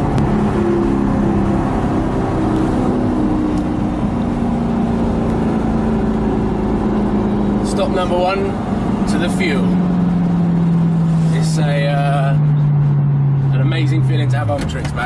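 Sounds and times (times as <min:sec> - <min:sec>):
car engine heard from inside cabin: 0:00.0 - 0:15.0.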